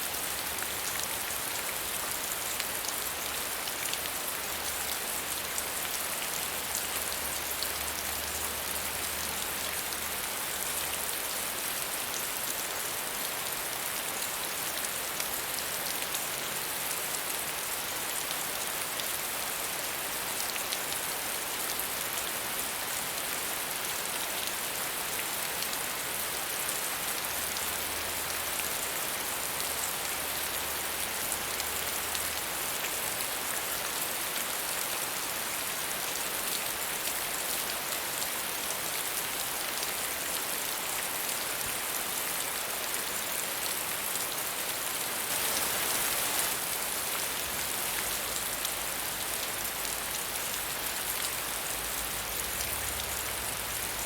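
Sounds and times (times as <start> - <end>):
patter of raindrops: 0.0 - 54.0.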